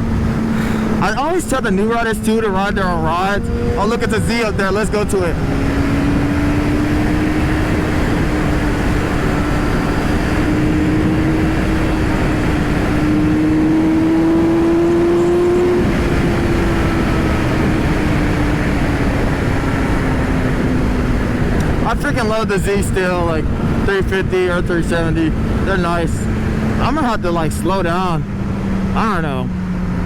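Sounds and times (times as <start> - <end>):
motorcycle engine at high revs: 0.0 - 30.0
wind noise: 0.0 - 30.0.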